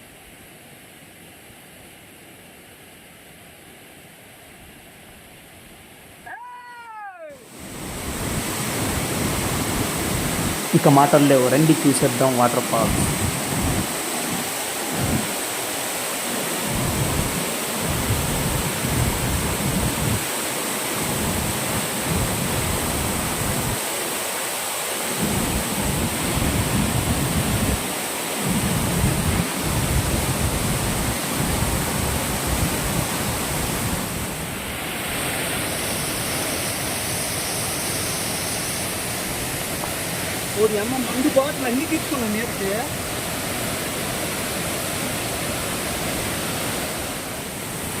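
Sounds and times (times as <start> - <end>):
waterfall roaring: 6.3 - 48.0.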